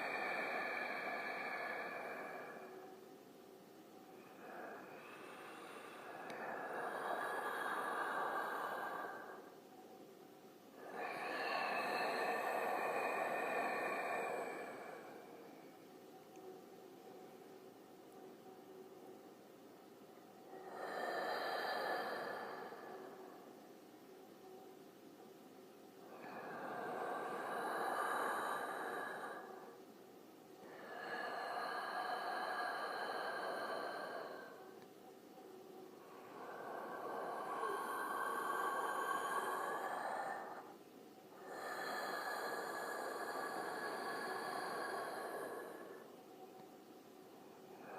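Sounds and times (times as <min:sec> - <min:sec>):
slow creepy breathing: 0:00.0 - 0:10.1, 0:10.7 - 0:47.9
faint steady tone: 0:00.0 - 0:47.9.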